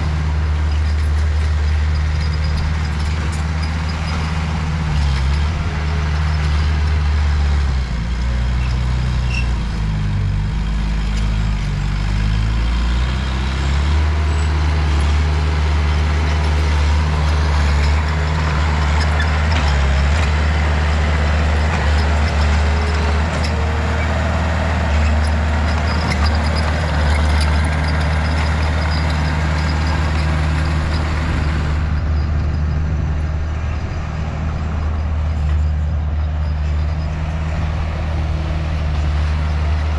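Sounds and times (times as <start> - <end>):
diesel machinery engine under load: 0.0 - 39.9.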